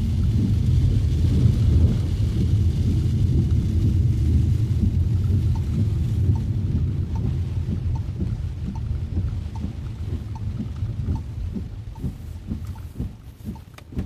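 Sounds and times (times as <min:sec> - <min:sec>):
rain hissing: 0:00.0 - 0:14.0
road and rain rumble: 0:00.0 - 0:14.0.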